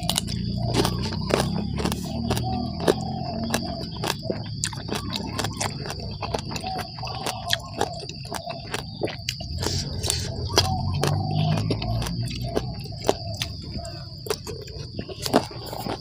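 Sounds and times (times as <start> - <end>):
chewing and mouth smacking: 0.0 - 16.0
high insect drone: 0.0 - 16.0.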